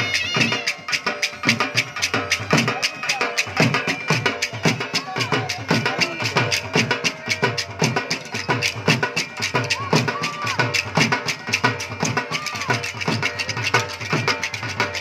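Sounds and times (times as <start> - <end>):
dhol drum beating fast rhythm: 0.0 - 15.0.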